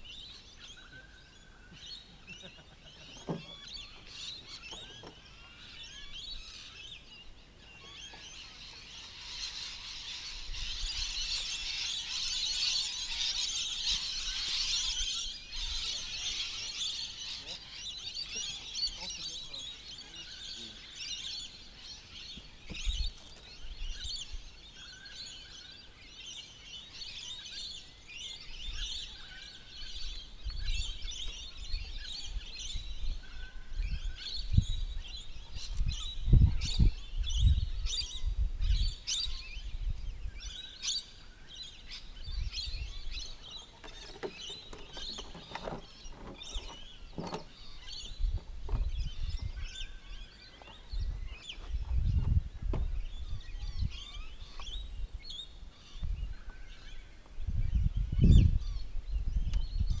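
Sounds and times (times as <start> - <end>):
birds chirping: 0.0 - 60.0.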